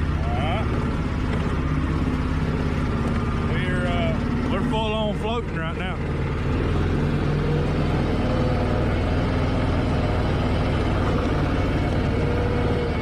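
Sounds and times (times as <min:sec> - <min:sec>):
amphibious vehicle engine droning: 0:00.0 - 0:13.0.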